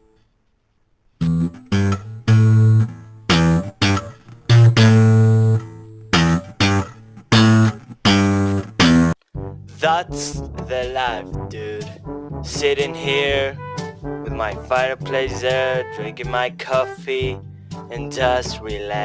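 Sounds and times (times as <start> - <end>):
low plucked guitar notes: 1.2 - 19.0.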